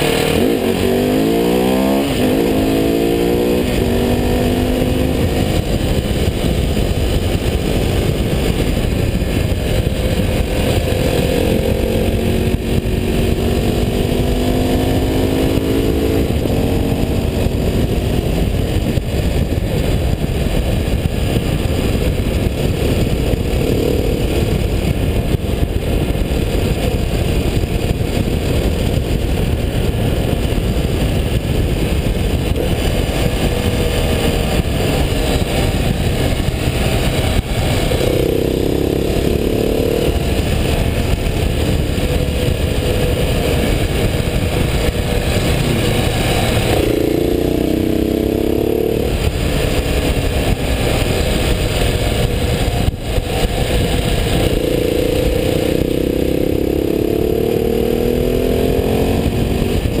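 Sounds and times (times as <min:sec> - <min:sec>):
motorcycle engine at speed: 0:00.0 - 1:00.0
wind and road noise: 0:00.0 - 1:00.0.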